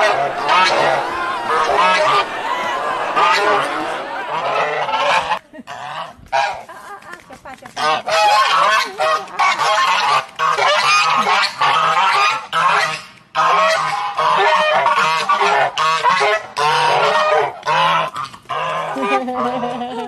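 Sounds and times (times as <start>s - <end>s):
geese honking: 0.0s - 6.7s, 7.8s - 19.9s.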